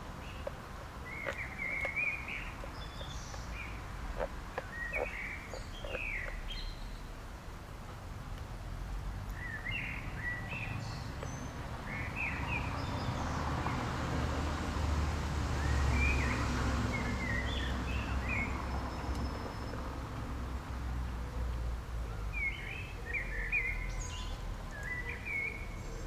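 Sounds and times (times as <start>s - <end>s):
small birds chirping: 0.0s - 7.2s, 9.3s - 13.8s, 15.6s - 26.0s.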